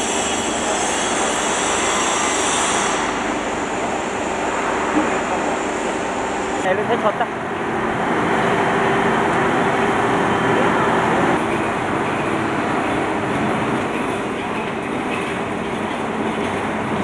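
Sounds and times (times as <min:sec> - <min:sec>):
machinery noise: 0:00.0 - 0:17.0.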